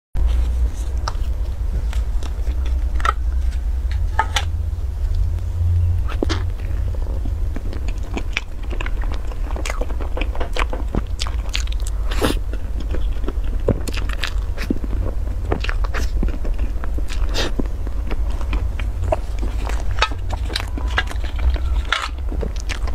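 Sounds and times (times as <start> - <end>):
steady low hum: 0.2 - 22.9
person chewing wetly: 0.3 - 4.5, 5.9 - 22.9.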